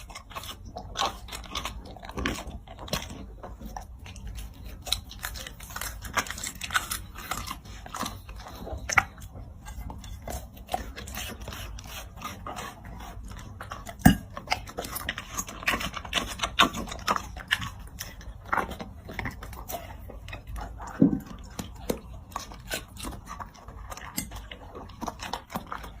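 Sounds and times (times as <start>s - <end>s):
dog chewing and crunching food: 0.0s - 26.0s.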